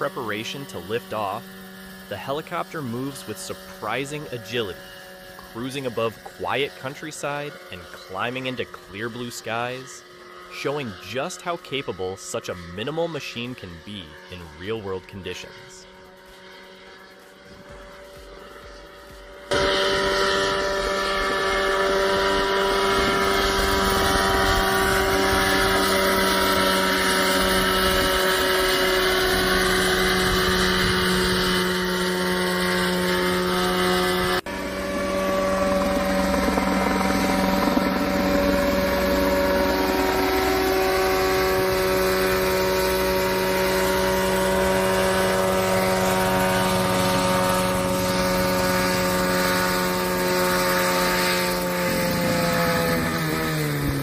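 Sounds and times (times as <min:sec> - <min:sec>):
helicopter engine and rotor hum: 0:00.0 - 0:54.0.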